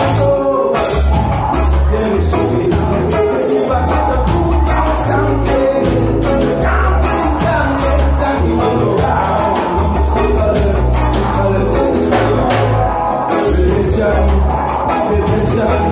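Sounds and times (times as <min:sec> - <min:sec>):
drum kit beat: 0:00.0 - 0:15.9
electric bass: 0:00.0 - 0:15.9
electric guitars: 0:00.0 - 0:15.9.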